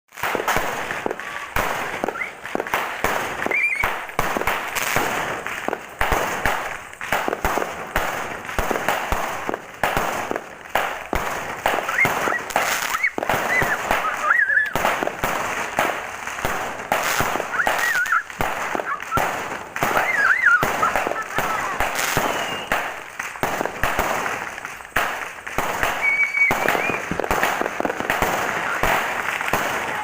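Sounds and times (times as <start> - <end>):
firecrackers crackling: 0.1 - 30.0
fireworks sharp bangs: 0.1 - 30.0.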